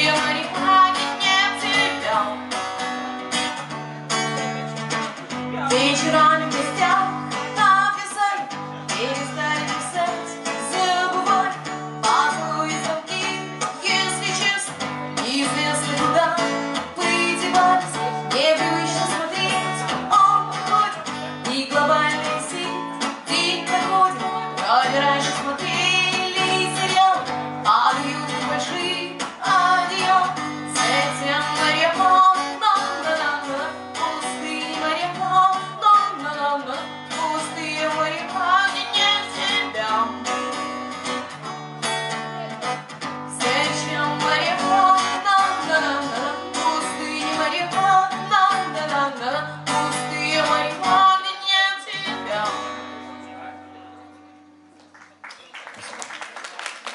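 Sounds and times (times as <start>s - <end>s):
woman singing: 0.0s - 2.7s, 5.7s - 40.4s, 43.3s - 52.9s
strummed acoustic guitar: 0.0s - 54.7s.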